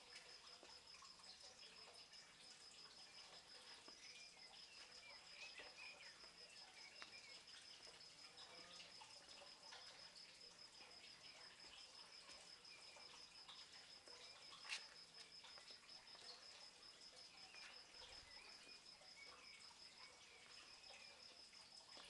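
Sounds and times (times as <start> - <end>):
insect pulsing trill: 0.1 - 22.0.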